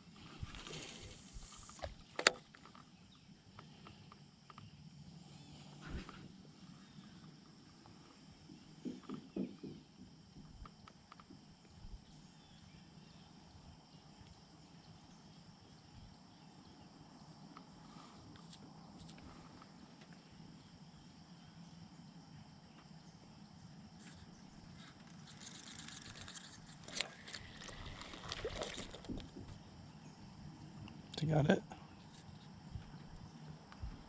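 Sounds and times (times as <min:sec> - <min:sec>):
insect chorus: 0:00.0 - 0:34.0.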